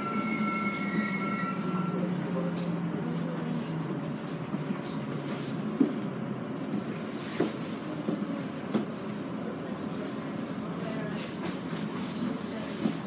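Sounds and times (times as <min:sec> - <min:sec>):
train rumble from inside: 0:00.0 - 0:13.0.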